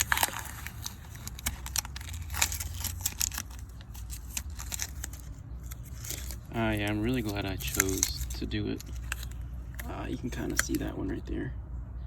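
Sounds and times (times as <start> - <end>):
tape and paper peeled and crumpled: 0.0 - 11.2.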